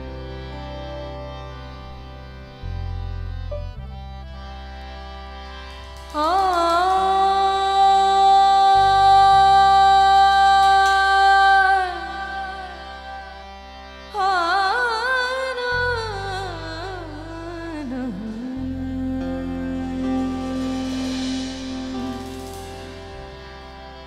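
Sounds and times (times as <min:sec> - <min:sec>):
devotional melody: 0:00.0 - 0:24.0
low sustained accompaniment tones: 0:00.0 - 0:24.0.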